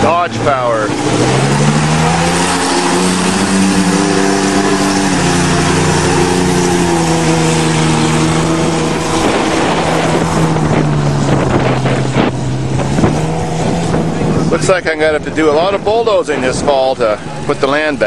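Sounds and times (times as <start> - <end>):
vehicle engine running hard: 0.0 - 18.0.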